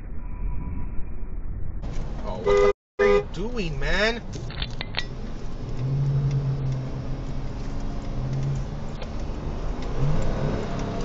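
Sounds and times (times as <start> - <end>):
car engine and road noise: 1.5 - 11.0.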